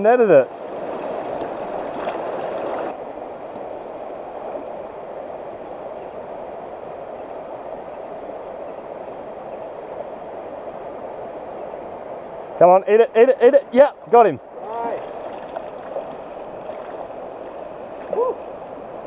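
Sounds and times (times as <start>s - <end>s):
stream rushing over rocks: 0.0s - 12.7s, 14.4s - 19.0s.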